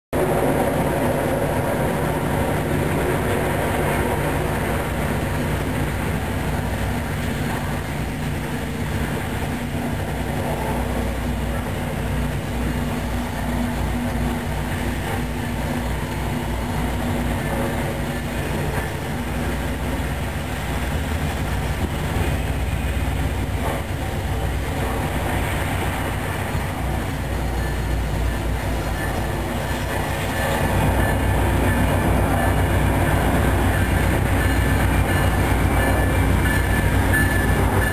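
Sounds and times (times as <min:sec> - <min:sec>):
diesel locomotive engine running: 0:00.1 - 0:37.9
train wheels on rails: 0:00.2 - 0:37.9.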